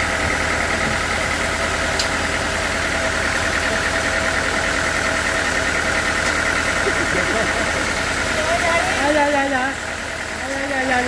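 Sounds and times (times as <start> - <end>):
sawmill machinery drone and whine: 0.0 - 11.0.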